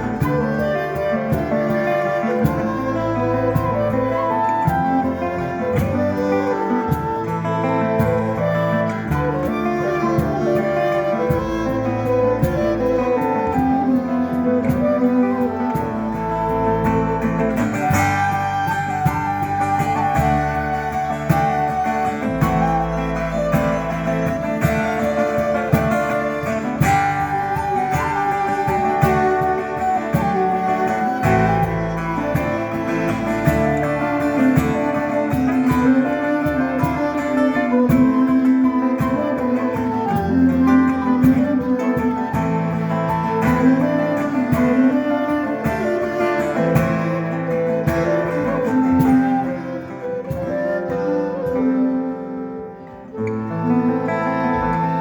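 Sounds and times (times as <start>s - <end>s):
plucked guitar melody: 0.0s - 55.0s.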